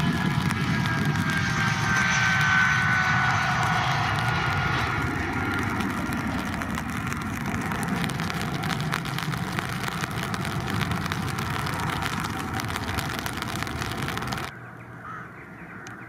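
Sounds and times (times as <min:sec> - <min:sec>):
jet engines roaring at takeoff: 0:00.0 - 0:14.6
high engine whine: 0:00.0 - 0:14.9.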